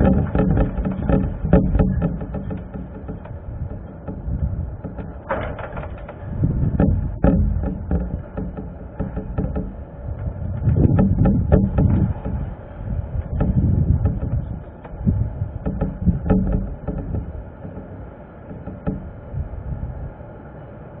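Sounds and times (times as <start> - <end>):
short knocks and rattles: 0.0 - 20.0
gusty wind buffeting microphone: 0.0 - 21.0.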